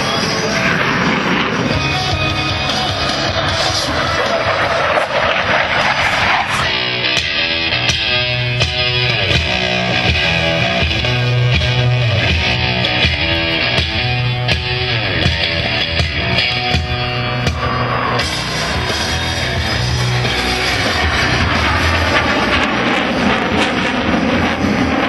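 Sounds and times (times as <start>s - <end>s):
rock music with electric guitar: 0.0s - 25.0s
rushing noise: 0.0s - 25.0s.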